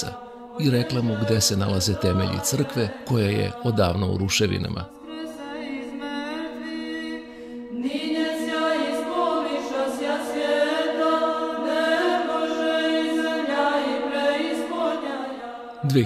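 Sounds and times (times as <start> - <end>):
choir chanting unaccompanied: 0.0 - 16.0.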